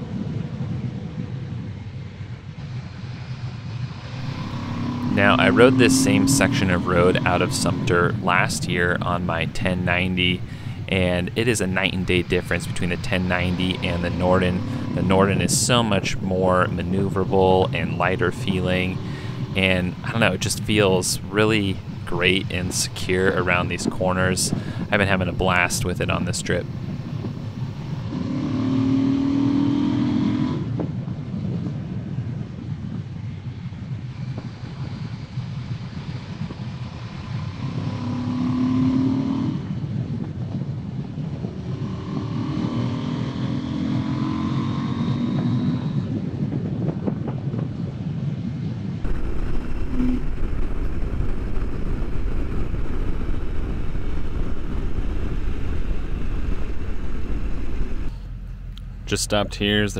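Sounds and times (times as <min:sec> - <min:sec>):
wind and road rush: 0:00.0 - 0:59.9
motorcycle engine revving: 0:02.6 - 0:31.2, 0:34.2 - 0:46.7, 0:49.0 - 0:59.9.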